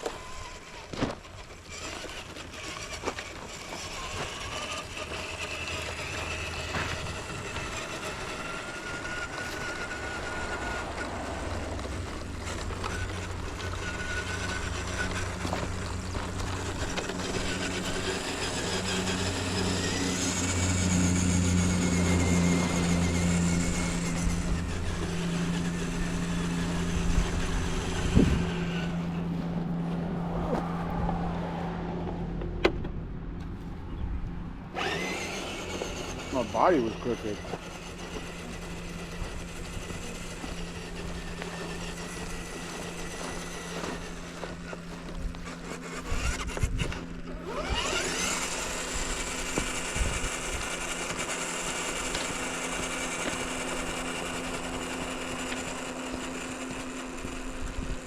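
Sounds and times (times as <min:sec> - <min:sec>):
electric motor whining: 0:00.0 - 0:58.0
low hum: 0:02.4 - 0:36.3, 0:36.9 - 0:58.0.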